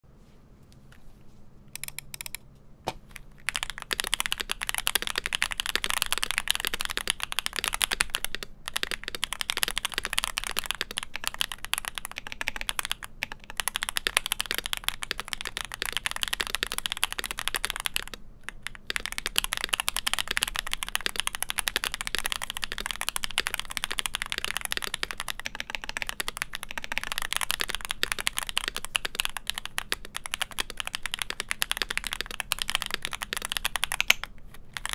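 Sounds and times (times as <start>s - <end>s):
mechanical keyboard typing: 1.8s - 2.4s, 3.2s - 34.9s.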